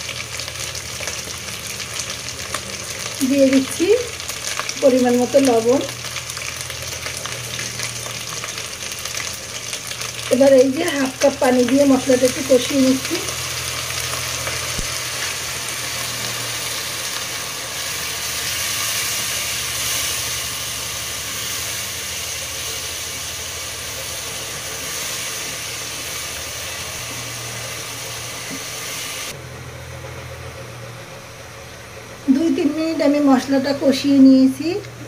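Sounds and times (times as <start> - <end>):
paste sizzling in a pot: 0.0 - 29.4.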